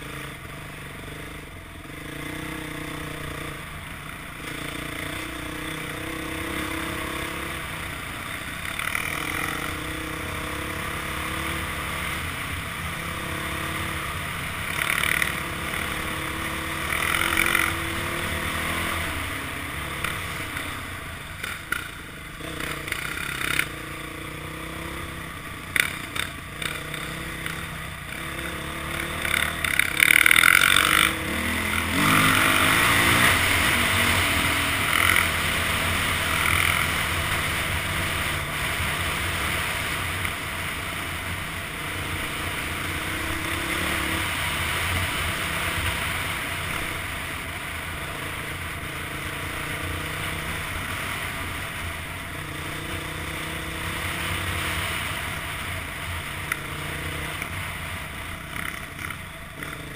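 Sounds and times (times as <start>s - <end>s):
dirt bike engine: 0.0s - 59.9s.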